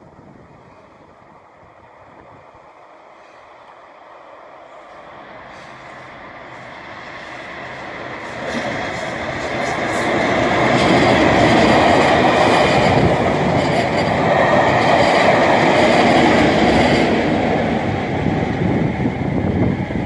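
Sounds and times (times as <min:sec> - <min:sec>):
diesel locomotive engines running: 0:00.0 - 0:20.0
train wheels rumbling on rails: 0:00.0 - 0:20.0.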